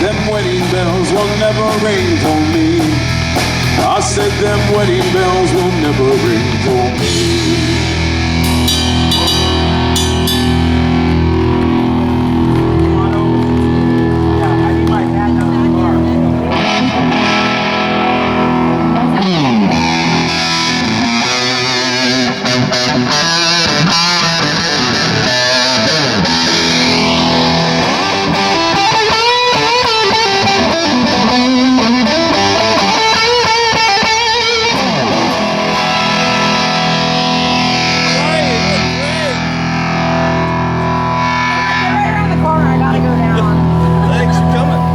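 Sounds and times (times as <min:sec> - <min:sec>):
distorted electric guitar lead: 0:00.0 - 0:44.9
instrumental band playing: 0:00.0 - 0:44.9.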